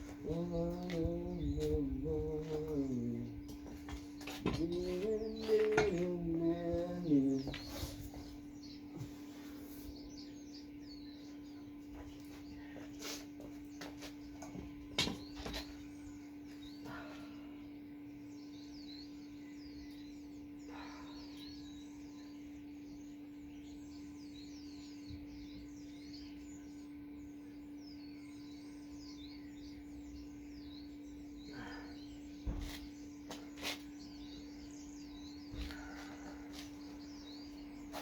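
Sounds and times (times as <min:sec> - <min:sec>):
small birds chirping: 0:00.0 - 0:38.0
steady hum: 0:00.0 - 0:38.0.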